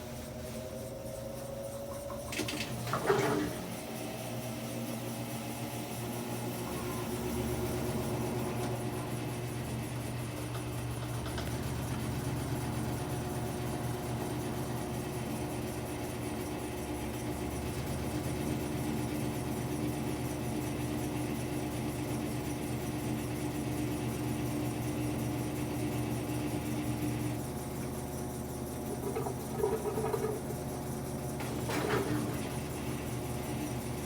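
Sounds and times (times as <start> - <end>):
washing machine motor and pump hum: 0.0 - 34.0.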